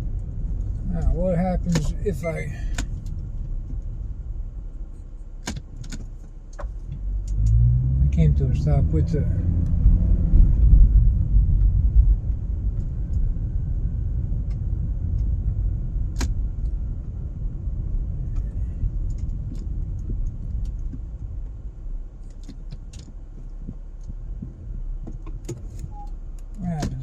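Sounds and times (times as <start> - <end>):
car road rumble: 0.0 - 27.0.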